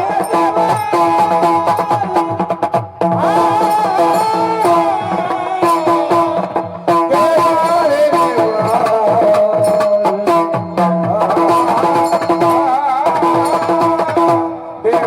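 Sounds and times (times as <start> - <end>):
hand drum strokes: 0.0 - 15.0
person singing wavering melody: 0.0 - 15.0.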